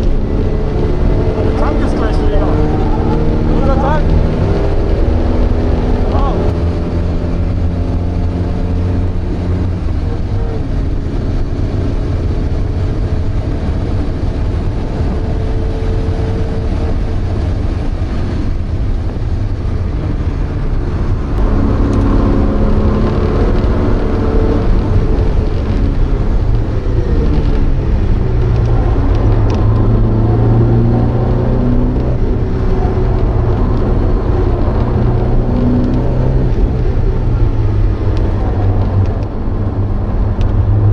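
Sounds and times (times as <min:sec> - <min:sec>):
car engine at speed: 0:00.0 - 0:40.9.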